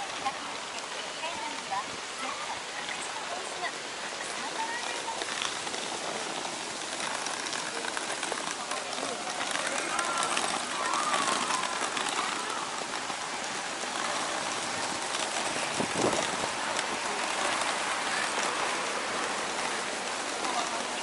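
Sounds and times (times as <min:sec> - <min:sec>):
suitcase wheels rolling over bricks: 0:00.0 - 0:21.0.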